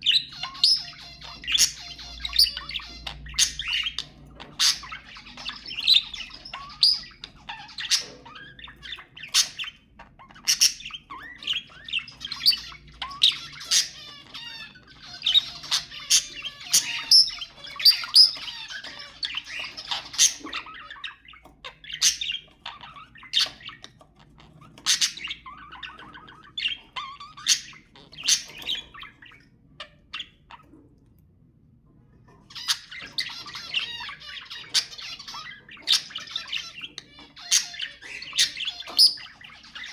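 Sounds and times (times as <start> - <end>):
budgerigars chattering: 0.0 - 30.8, 32.4 - 39.9.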